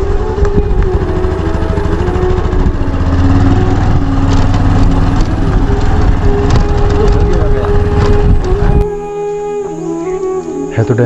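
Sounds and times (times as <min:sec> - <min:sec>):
motorcycle engine at low speed: 0:00.0 - 0:09.2.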